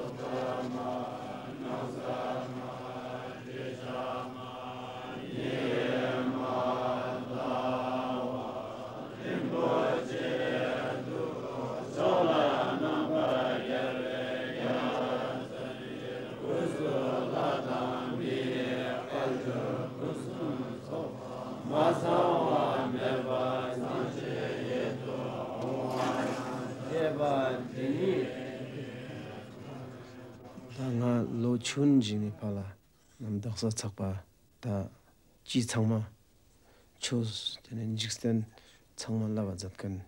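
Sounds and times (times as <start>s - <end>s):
monks chanting in low drone: 0.0s - 32.7s.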